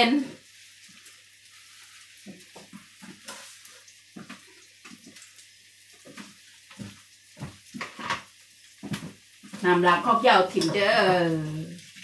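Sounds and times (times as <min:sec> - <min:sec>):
paste sizzling in a wok: 0:00.0 - 0:12.0.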